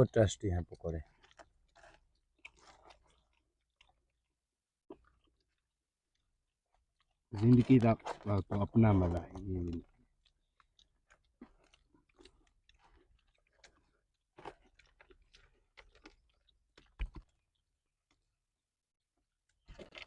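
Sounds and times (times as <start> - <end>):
person chewing crunchy food: 1.0 - 18.4, 19.3 - 20.0.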